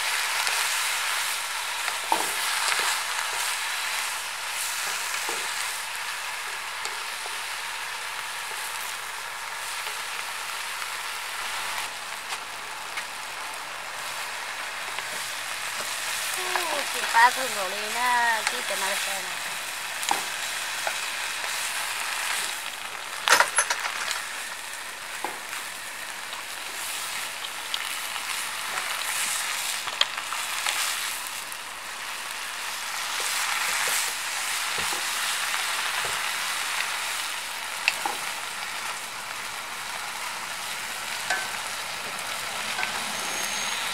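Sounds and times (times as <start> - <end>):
vegetables sizzling in a wok: 0.0 - 43.9.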